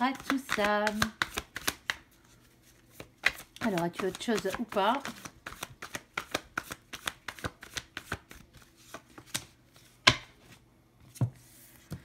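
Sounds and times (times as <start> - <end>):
cards being shuffled: 0.0 - 10.1.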